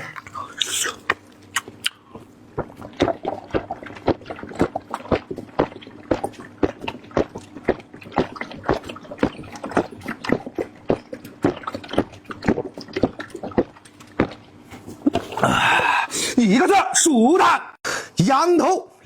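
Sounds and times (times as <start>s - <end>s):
wet chewing and lip-smacking: 0.0s - 15.4s.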